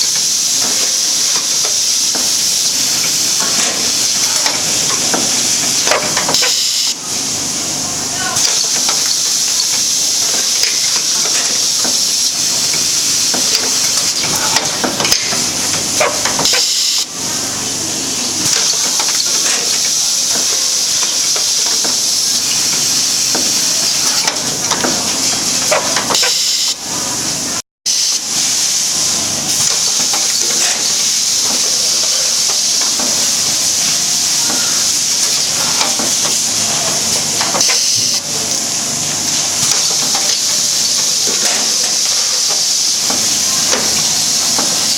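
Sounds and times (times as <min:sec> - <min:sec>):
packing machine hissing air: 0:00.0 - 0:44.9.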